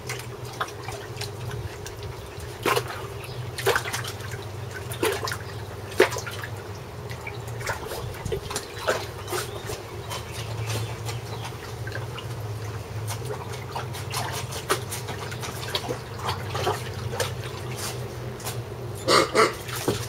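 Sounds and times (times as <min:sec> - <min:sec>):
low steady hum: 0:00.0 - 0:20.0
water splashing in wading pool: 0:00.0 - 0:20.0.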